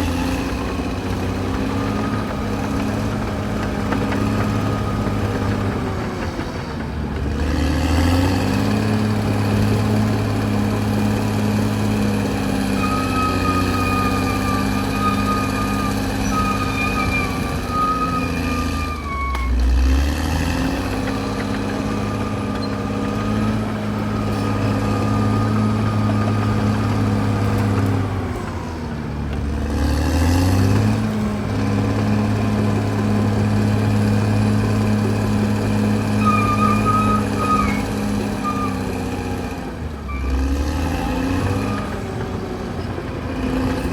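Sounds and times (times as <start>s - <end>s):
bulldozer diesel engine running hard: 0.0s - 43.9s.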